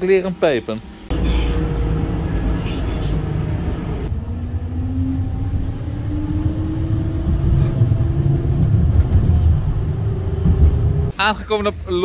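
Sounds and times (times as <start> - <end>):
traction motor whine: 1.1 - 11.1
tram wheels rumbling on rails: 1.1 - 11.1.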